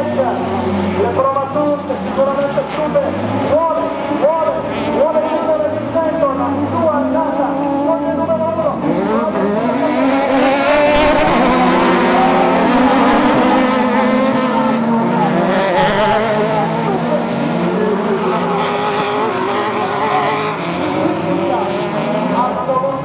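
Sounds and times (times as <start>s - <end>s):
buggy engines revving: 0.0s - 23.0s.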